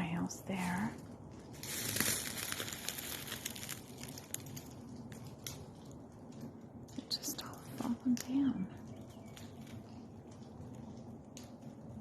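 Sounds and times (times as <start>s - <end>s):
seed pods falling on dry leaves: 0.0s - 6.1s, 7.0s - 12.0s.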